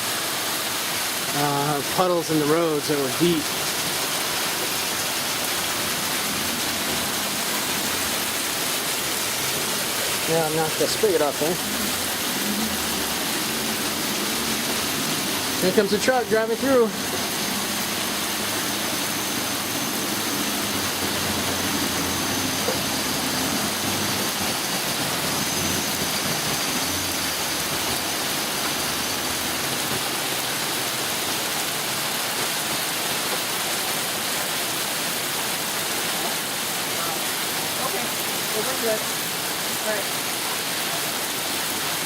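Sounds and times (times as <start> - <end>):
heavy rain: 0.0 - 42.0.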